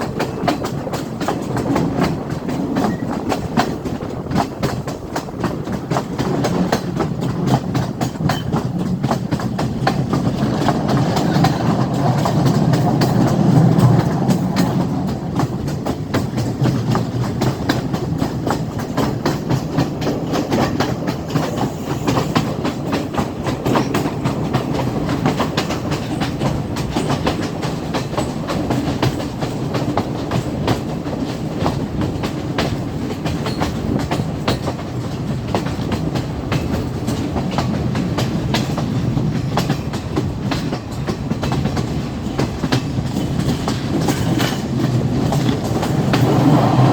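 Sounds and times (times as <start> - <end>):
train rumbling along track: 0.0 - 46.9
wheels clacking over rail joints: 0.0 - 46.9.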